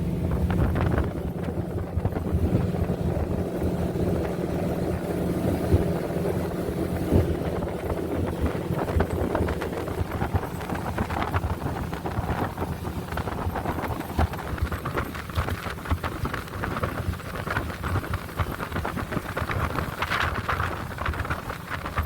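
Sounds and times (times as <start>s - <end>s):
boat engine running: 0.0s - 22.0s
wind buffeting microphone: 0.0s - 22.0s.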